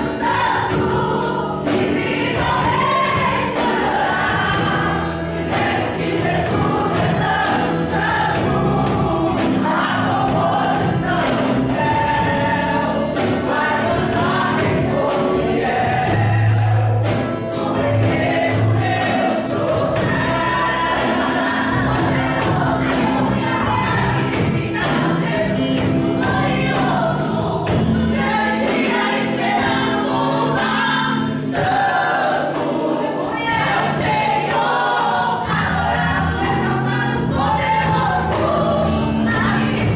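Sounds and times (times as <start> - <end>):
gospel accompaniment with steady beat: 0.0 - 39.9
group of voices singing: 0.0 - 39.9.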